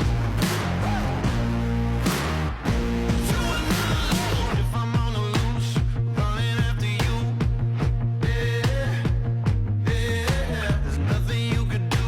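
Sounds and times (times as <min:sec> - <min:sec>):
funk-pop music with drum and bass: 0:00.0 - 0:12.0.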